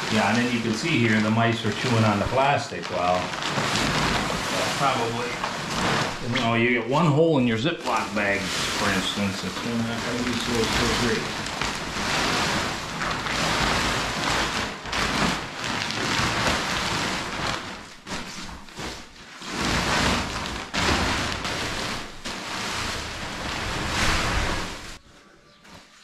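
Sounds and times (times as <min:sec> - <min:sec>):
plastic sheet crinkling: 0:00.0 - 0:25.0.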